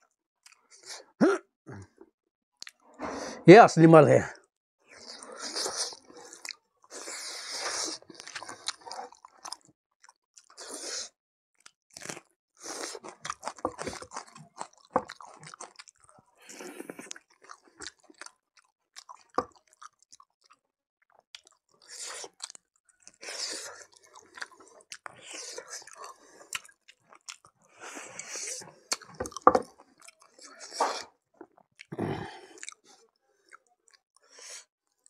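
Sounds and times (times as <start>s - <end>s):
person biting and chewing meat: 4.9s - 34.7s.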